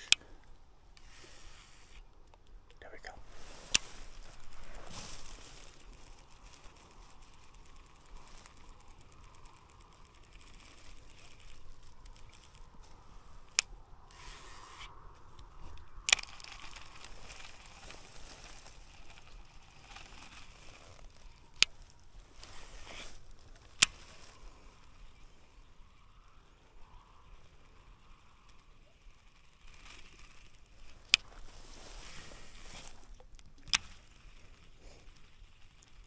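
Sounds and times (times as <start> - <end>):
reel cranking: 0.0 - 2.4, 3.6 - 36.0
spool whirring: 0.0 - 2.4, 3.3 - 36.0
fishing reel click: 0.0 - 2.8, 3.4 - 36.0.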